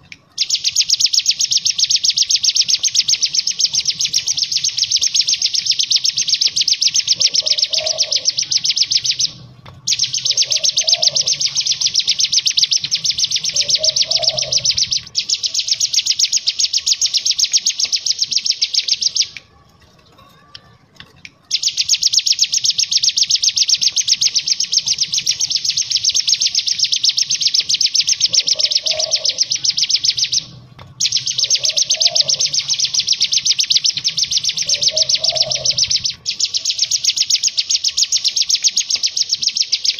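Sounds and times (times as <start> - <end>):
bird rattling trill: 0.0 - 20.6, 21.4 - 39.9.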